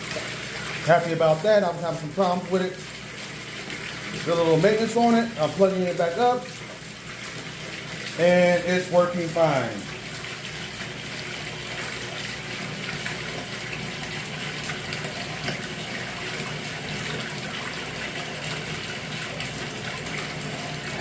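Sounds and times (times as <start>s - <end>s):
water pump running: 0.0s - 21.0s
water rushing: 0.0s - 21.0s.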